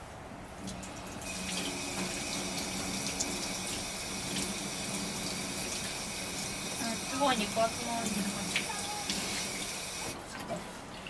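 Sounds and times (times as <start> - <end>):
tap water running into sink: 0.6 - 10.6.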